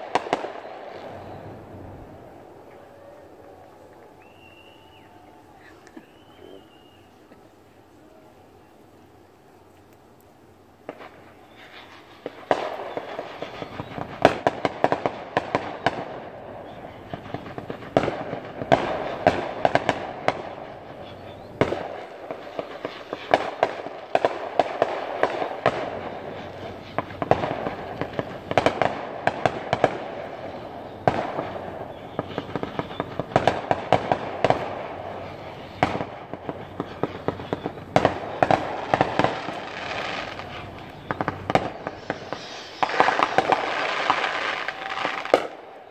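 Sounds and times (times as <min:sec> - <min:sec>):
fireworks cracks and bangs: 0:00.0 - 0:06.3, 0:10.8 - 0:45.9
fireworks crackling: 0:00.0 - 0:45.9.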